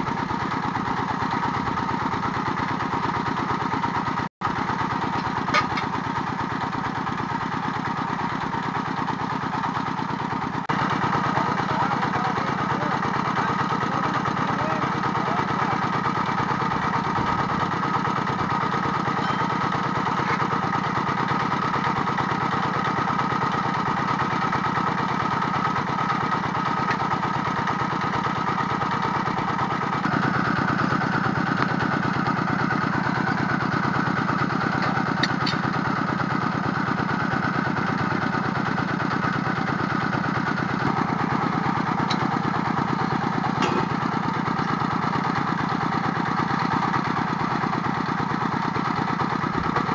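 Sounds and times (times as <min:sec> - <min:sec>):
drilling rig engine running: 0:00.0 - 0:49.9.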